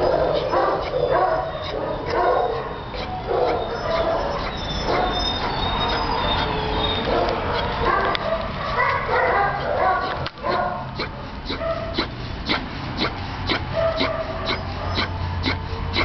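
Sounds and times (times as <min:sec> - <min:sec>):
dogs barking and whimpering: 0:00.0 - 0:16.0.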